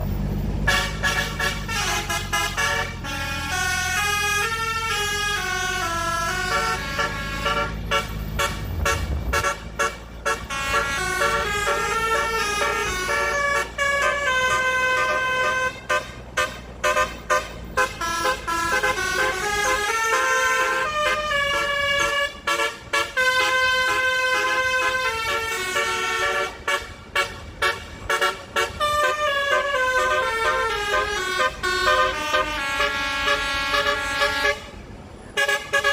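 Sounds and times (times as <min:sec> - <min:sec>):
low engine rumble: 0:00.0 - 0:35.9
musical truck horn melody: 0:00.6 - 0:35.9.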